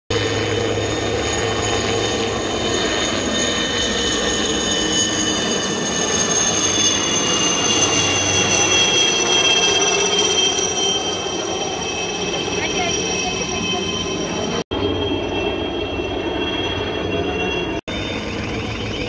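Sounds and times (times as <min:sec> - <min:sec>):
helicopter turbine whine and rotor: 0:00.1 - 0:19.0.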